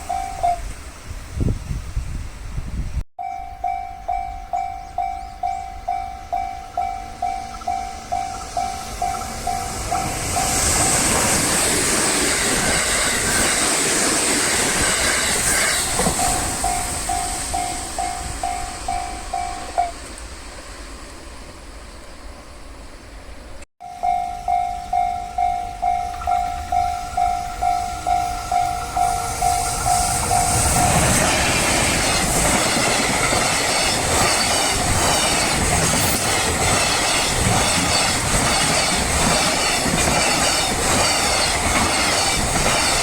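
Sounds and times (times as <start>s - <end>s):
level-crossing warning bell dinging: 0.0s - 0.7s, 3.2s - 13.5s, 14.6s - 20.1s, 23.8s - 43.0s
train passing over crossing: 0.0s - 43.0s.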